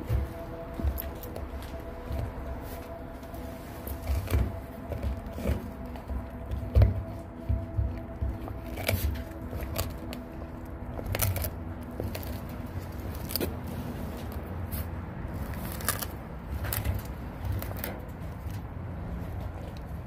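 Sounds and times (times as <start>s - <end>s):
dog chewing fish bones: 0.0s - 20.0s.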